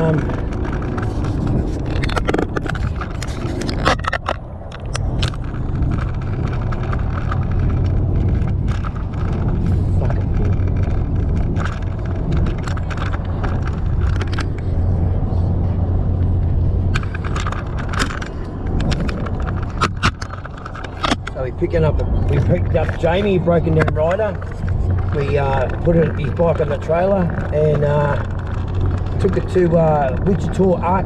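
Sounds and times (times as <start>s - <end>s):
truck engine and road rumble: 0.0s - 31.0s.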